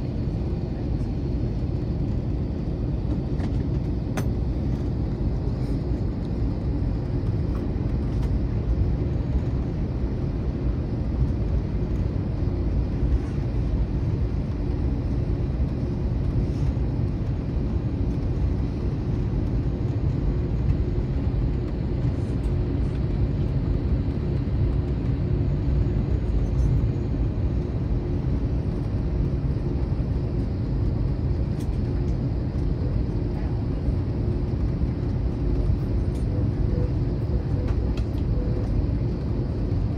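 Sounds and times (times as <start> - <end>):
aircraft cabin low rumble: 0.0 - 39.9.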